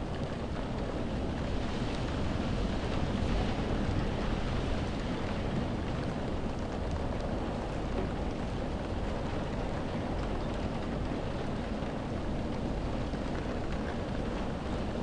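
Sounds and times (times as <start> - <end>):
low rumble of wind: 0.0 - 15.0
rain pattering on window glass: 0.0 - 15.0.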